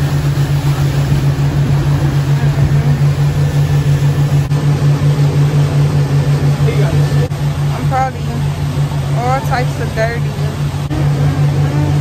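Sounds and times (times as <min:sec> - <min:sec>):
boat engine droning: 0:00.0 - 0:12.0
wind and water rushing: 0:00.0 - 0:12.0.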